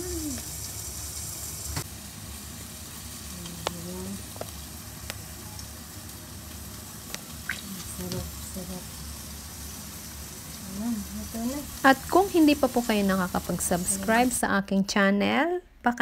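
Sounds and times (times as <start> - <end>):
fish sizzling on grill: 0.0 - 14.4.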